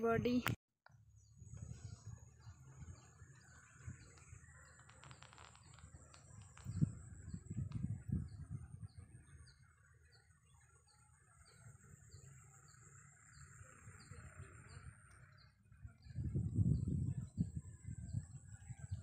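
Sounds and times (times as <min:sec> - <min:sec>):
chorus of birds: 0:01.2 - 0:19.0
low rumbling: 0:01.4 - 0:09.8, 0:11.4 - 0:19.0.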